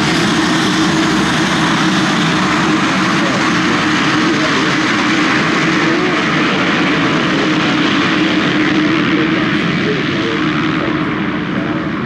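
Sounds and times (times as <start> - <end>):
propeller plane flying overhead: 0.0 - 12.0.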